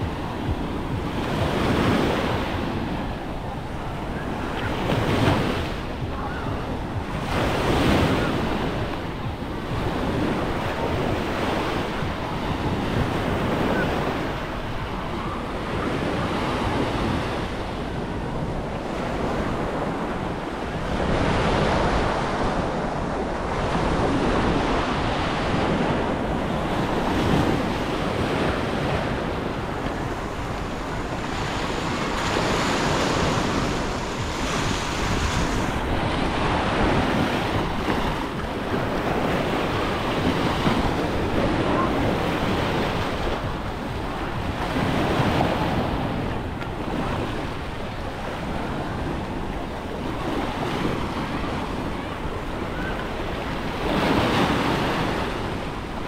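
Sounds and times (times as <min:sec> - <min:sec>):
waves breaking on beach: 0:00.0 - 0:56.0
wind rumbling on microphone: 0:00.0 - 0:56.0.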